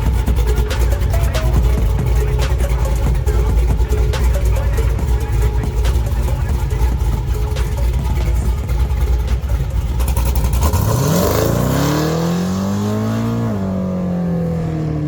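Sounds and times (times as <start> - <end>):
engine low rumble revving: 0.0 - 15.0.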